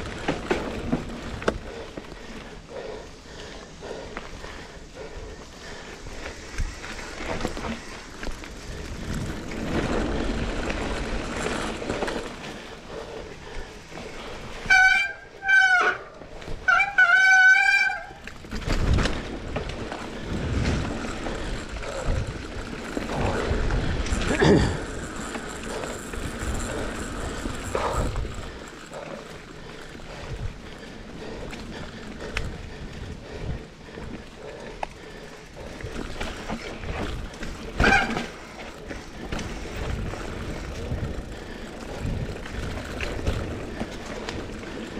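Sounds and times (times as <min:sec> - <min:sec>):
bike rattles and knocks: 0:00.0 - 0:03.0, 0:05.0 - 0:44.9
bike tyres on dirt trail: 0:00.0 - 0:44.9.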